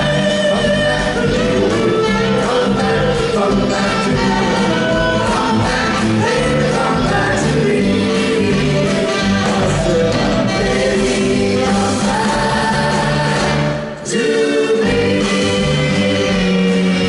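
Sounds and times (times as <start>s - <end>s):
instrumental accompaniment: 0.0s - 17.0s
vocal group singing harmony: 0.0s - 17.0s.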